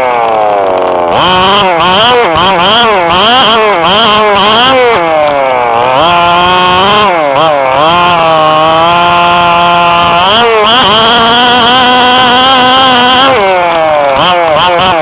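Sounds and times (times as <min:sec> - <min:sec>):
rc car engine revving: 0:00.0 - 0:15.0.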